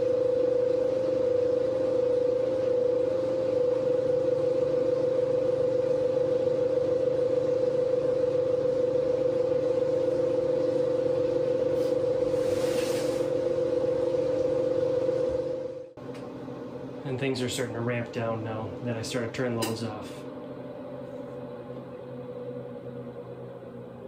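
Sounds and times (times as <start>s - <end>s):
cooling fans running: 0.0s - 24.0s
electrical hum with tone: 0.0s - 24.0s.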